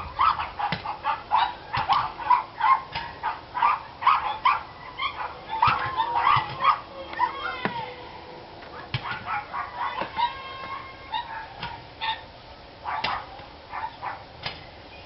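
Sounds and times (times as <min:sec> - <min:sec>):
dogs barking: 0:00.0 - 0:07.8, 0:08.7 - 0:14.4.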